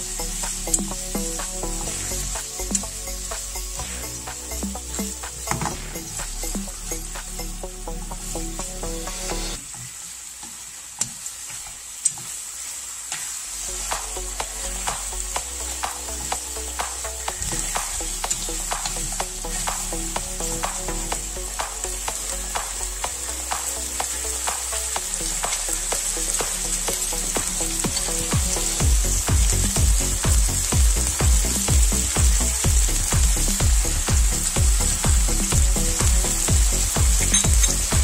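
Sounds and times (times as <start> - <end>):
food sizzling in a frying pan: 0.0 - 38.0.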